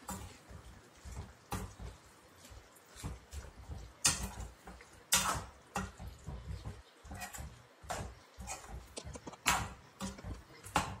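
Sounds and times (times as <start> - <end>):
spoon scraping and knocking pan: 0.0 - 11.0.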